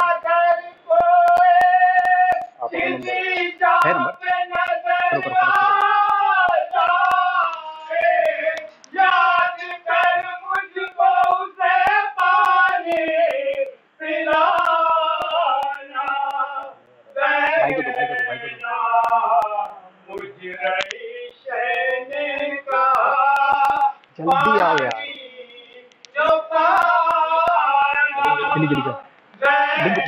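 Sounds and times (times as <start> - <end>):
person singing a lament: 0.0 - 30.0.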